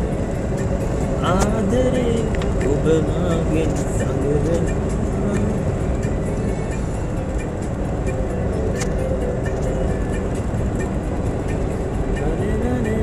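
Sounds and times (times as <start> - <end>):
road and engine noise inside car: 0.0 - 13.0.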